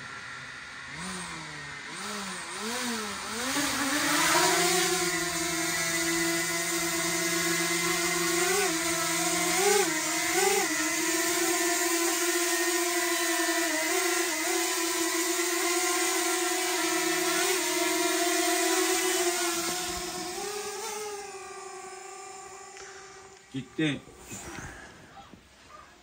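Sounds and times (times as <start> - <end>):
drone propeller motors whining: 0.0 - 26.0.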